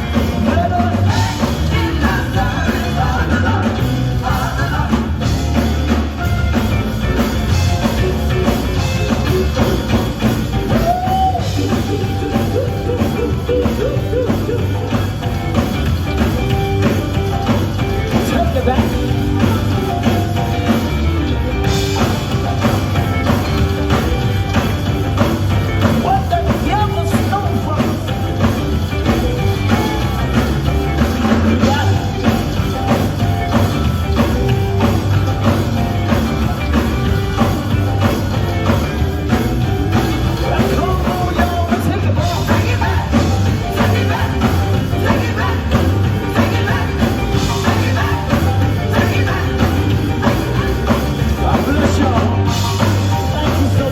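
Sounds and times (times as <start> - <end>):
drum kit: 0.0 - 53.9
heavy bass: 0.0 - 53.9
live band music: 0.0 - 53.9.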